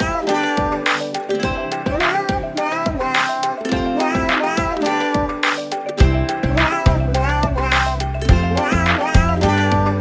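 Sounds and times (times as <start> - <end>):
song with plucked strings: 0.0 - 10.0.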